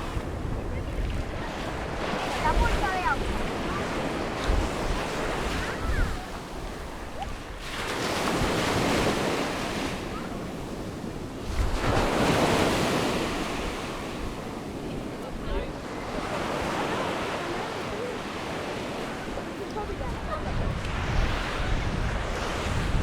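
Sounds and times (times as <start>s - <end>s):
sea waves washing onto beach: 0.0s - 23.0s
wind buffeting microphone: 0.0s - 23.0s.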